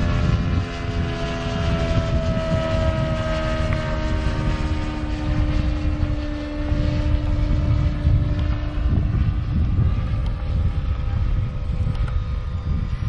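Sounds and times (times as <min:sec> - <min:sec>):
distant model plane engine drone: 0:00.0 - 0:13.0
wind rumble on microphone: 0:00.0 - 0:13.0.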